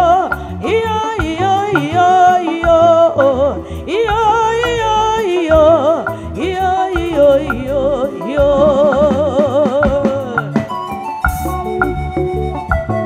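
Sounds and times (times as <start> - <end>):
woman singing gospel: 0.0 - 11.0
bass notes: 0.0 - 13.0
electronic keyboard: 0.0 - 13.0
percussion beat: 0.0 - 13.0.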